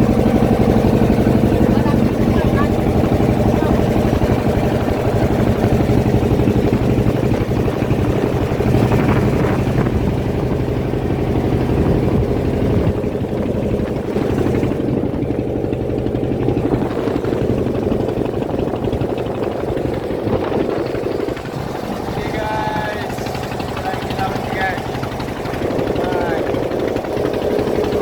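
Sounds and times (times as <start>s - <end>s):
boat engine humming: 0.0s - 28.0s
wind and water hiss: 2.8s - 28.0s.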